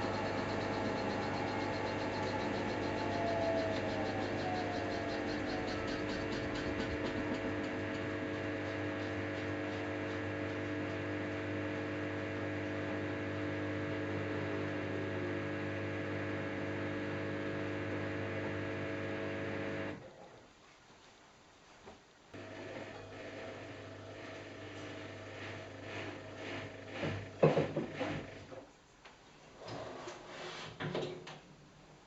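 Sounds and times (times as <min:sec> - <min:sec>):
washing machine motor hum: 0:00.0 - 0:20.0, 0:22.4 - 0:28.6.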